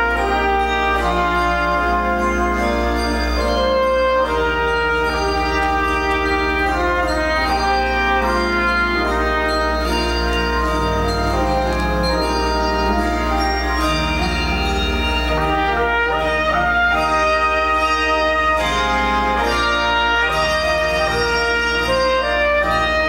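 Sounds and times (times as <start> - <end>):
handbell choir ringing chords: 0.0 - 23.0
organ accompaniment: 0.0 - 23.0.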